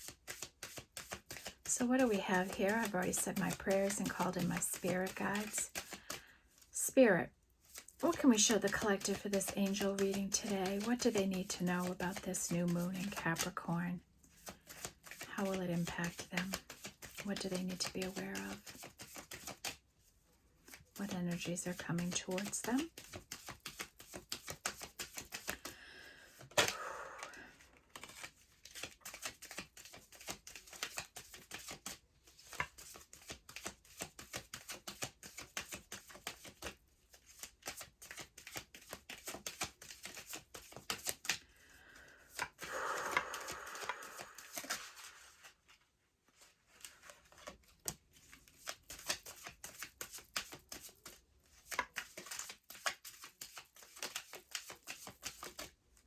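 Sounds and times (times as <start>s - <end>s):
cards being shuffled: 0.0s - 6.6s, 7.6s - 13.6s, 14.3s - 19.8s, 20.6s - 55.8s.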